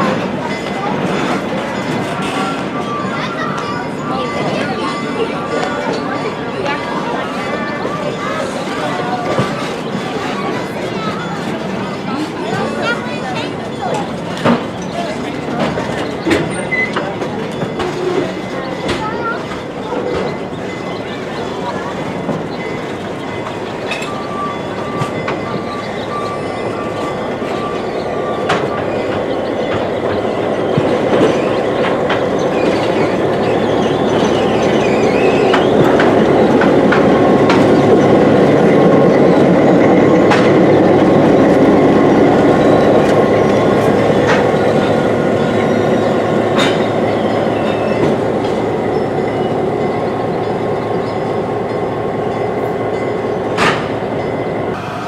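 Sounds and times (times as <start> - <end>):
train clattering over rails: 0.0 - 55.0.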